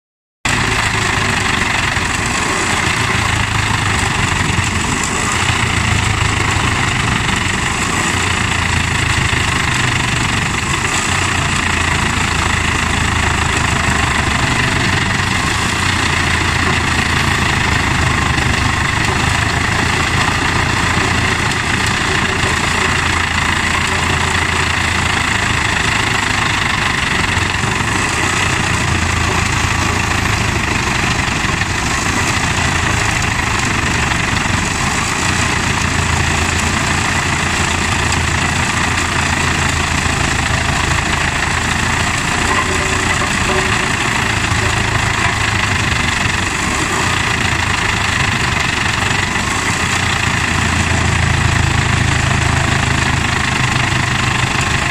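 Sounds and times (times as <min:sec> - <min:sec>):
wood chipper and tractor droning: 0:00.4 - 0:54.9.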